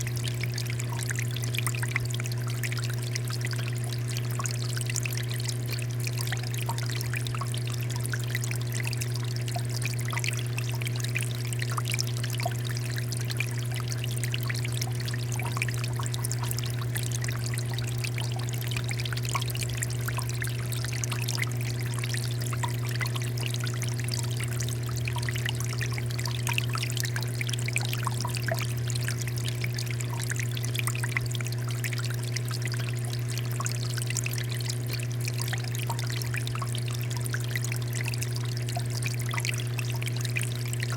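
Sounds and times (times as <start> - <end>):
constant low hum: 0.0 - 40.9
fountain water pouring and trickling: 0.0 - 40.9.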